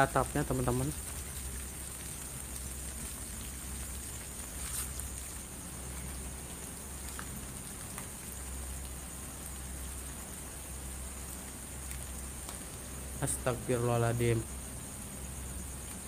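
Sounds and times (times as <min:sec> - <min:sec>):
crickets trilling: 0:00.0 - 0:16.0
steady rain falling: 0:00.0 - 0:16.0.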